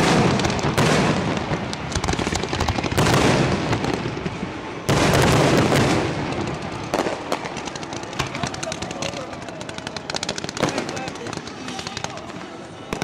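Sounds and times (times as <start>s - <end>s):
fireworks crackling and popping: 0.0s - 13.0s
heavy firework bursts: 0.0s - 13.0s.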